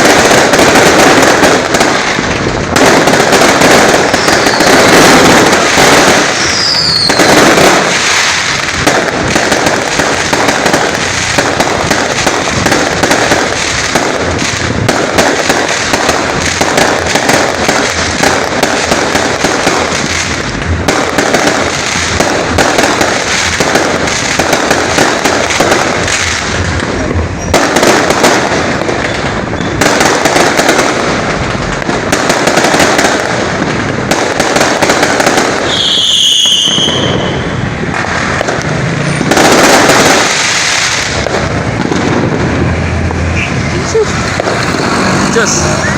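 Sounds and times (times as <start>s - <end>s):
fireworks hissing and crackling: 0.0s - 45.9s.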